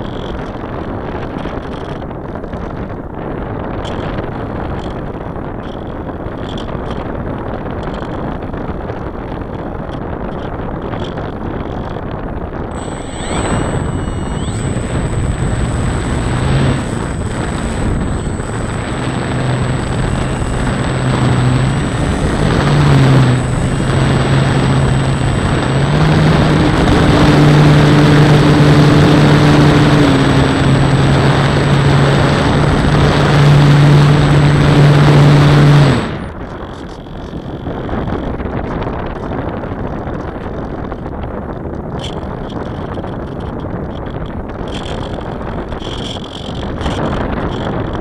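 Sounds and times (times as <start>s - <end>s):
model airplane motor hum: 0.0s - 2.9s, 3.7s - 48.0s
wind rushing over microphone: 0.0s - 48.0s.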